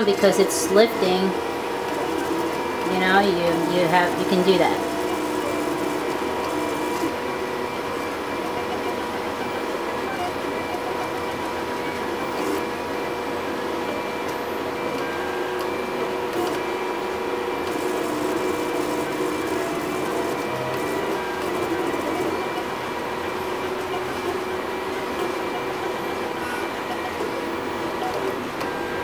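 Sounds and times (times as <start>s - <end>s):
printer stepper motors whining: 0.0s - 29.0s.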